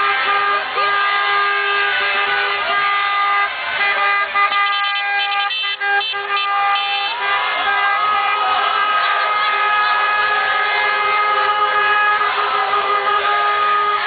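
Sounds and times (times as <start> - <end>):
car horns honking: 0.0 - 14.0.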